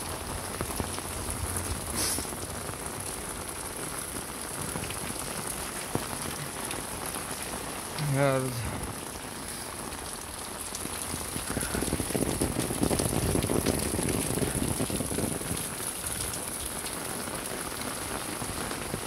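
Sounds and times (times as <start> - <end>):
heavy rain on pavement: 0.0 - 19.0.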